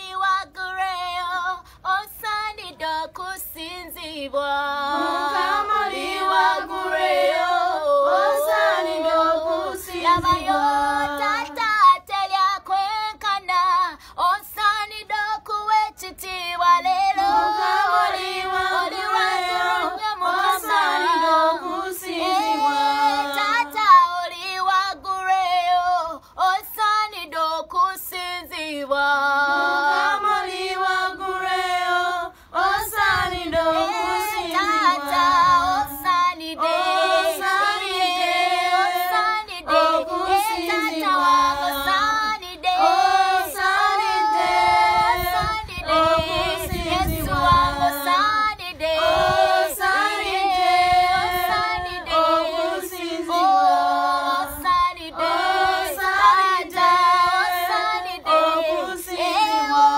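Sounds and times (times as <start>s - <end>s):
girl singing: 0.0s - 59.9s.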